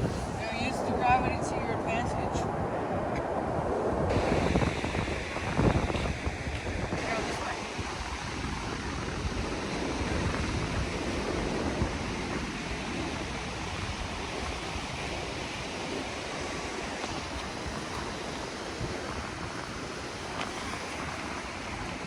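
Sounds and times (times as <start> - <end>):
ocean surf washing ashore: 0.0 - 22.0
wind buffeting microphone: 0.0 - 22.0.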